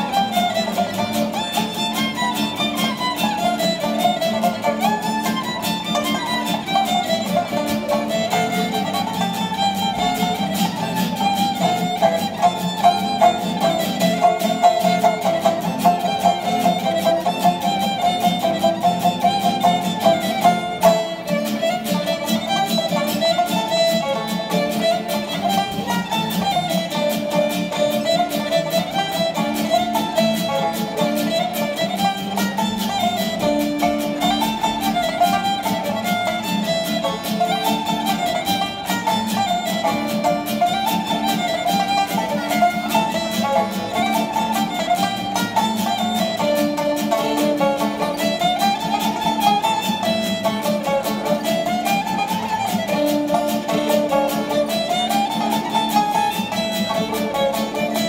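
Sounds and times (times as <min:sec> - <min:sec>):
acoustic guitar strumming: 0:00.0 - 0:58.0
banjo playing: 0:00.0 - 0:58.0
fiddle melody: 0:00.0 - 0:58.0.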